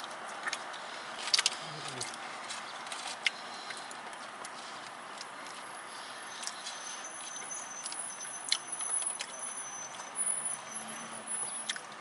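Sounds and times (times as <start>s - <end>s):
vehicle noise: 0.0s - 12.0s.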